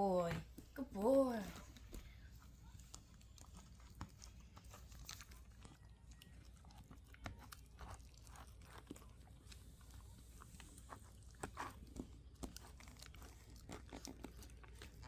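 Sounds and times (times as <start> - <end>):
puppy crunching dry kibble: 0.0 - 15.0.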